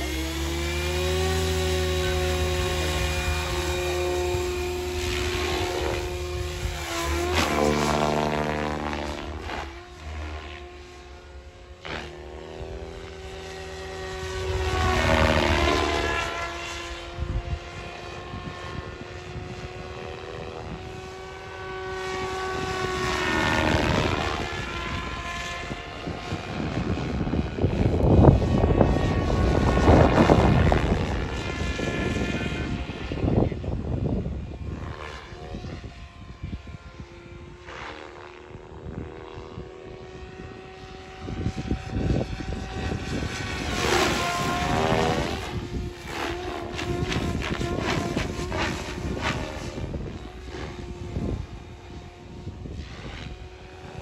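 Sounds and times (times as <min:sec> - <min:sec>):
rc helicopter motor and rotors whining: 0:00.0 - 0:54.0.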